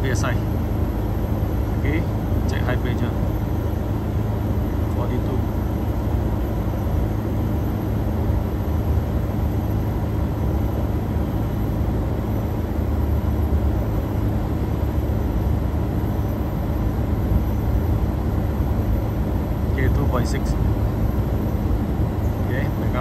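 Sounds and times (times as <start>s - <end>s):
air conditioner unit humming: 0.0s - 23.0s.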